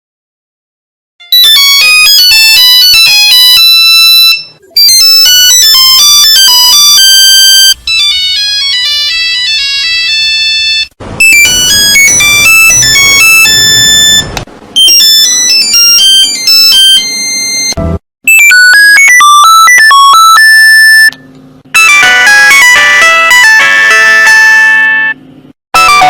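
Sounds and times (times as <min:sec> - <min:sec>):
electronic phone ringtones: 0:01.3 - 0:21.2, 0:21.8 - 0:25.2.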